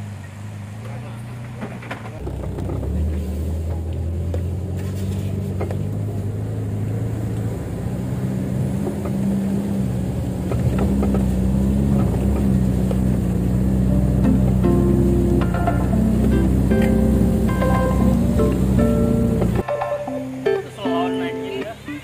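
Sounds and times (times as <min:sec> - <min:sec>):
car engine pulling uphill: 0:00.0 - 0:22.0.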